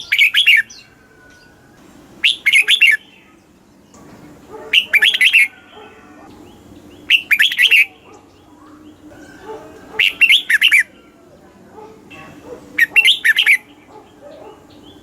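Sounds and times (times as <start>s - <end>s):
bird singing warbling phrases: 0.0s - 15.0s.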